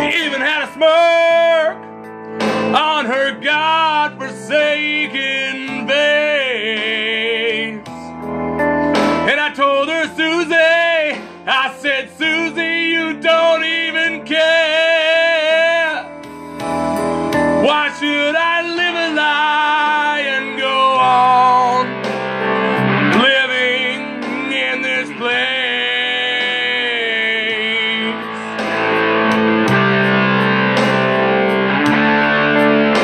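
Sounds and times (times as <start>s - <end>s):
man singing rock vocal: 0.0s - 8.2s, 9.0s - 16.3s, 17.6s - 31.3s
rock music with guitar: 0.0s - 33.0s.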